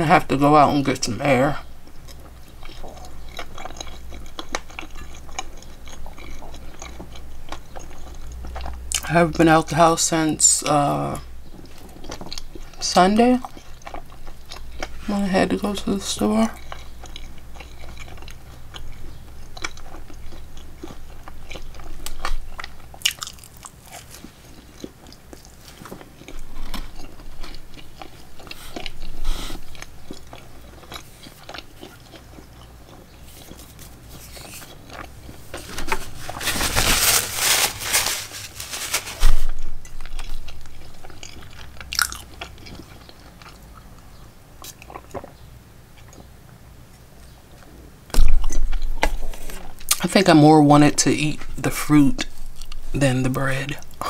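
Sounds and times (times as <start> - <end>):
person chewing food: 1.6 - 9.1, 11.2 - 50.0, 52.2 - 53.0.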